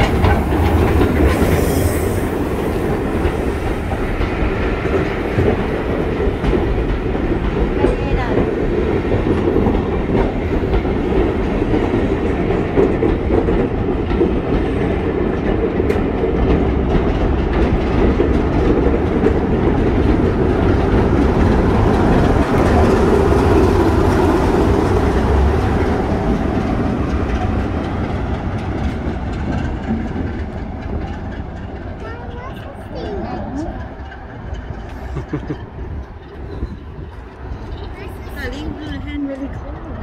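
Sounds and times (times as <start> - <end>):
train wheels clattering on rails: 0.0 - 40.0.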